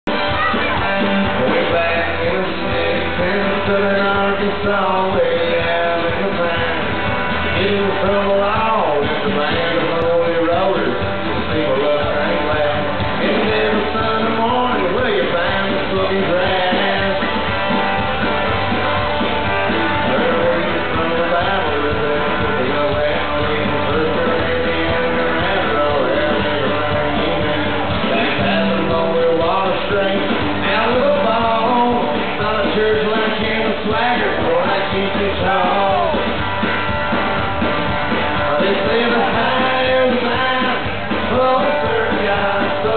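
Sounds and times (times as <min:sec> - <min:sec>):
drum kit: 0:00.0 - 0:42.9
man singing: 0:00.1 - 0:18.8, 0:19.4 - 0:36.7, 0:38.1 - 0:42.9
acoustic guitar strumming: 0:00.1 - 0:42.9.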